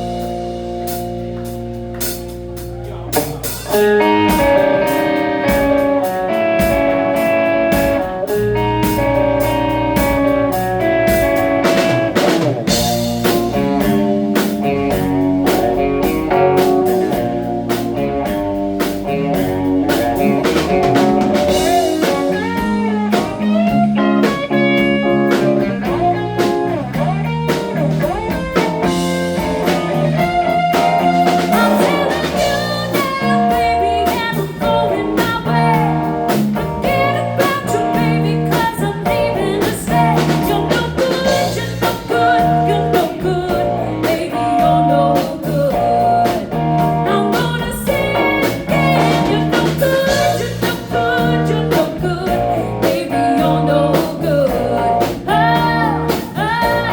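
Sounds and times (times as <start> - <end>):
blues-rock band playing: 0.0 - 56.9.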